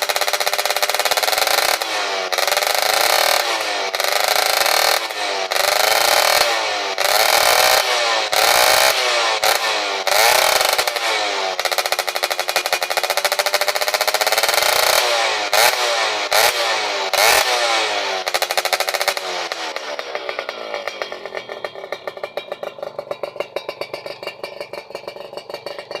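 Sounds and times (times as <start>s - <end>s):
motorcycle engine idling: 0.0s - 26.0s
motorcycle engine revving: 0.0s - 26.0s.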